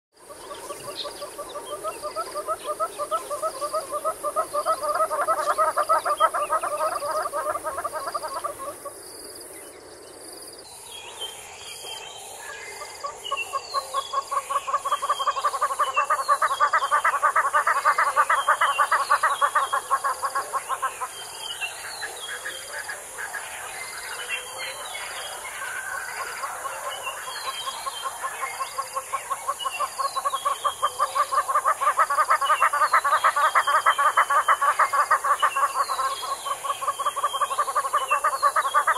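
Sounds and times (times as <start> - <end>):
hornbill rapid clucking calls: 0.2 - 9.0, 12.8 - 38.9.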